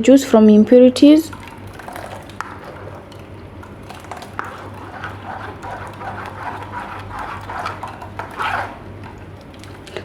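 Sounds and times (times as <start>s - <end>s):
steady low hum: 0.0s - 10.0s
spoon scraping pulp on a sieve: 1.3s - 10.0s.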